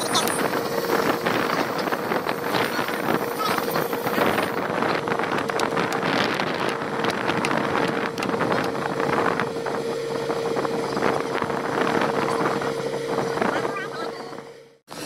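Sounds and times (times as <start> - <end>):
constant whine: 0.0 - 15.0
excavator diesel engine running: 0.0 - 15.0.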